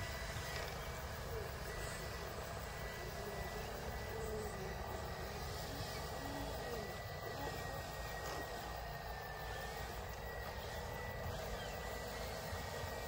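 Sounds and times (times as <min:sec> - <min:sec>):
toy tractor motor whine: 0:00.0 - 0:13.0.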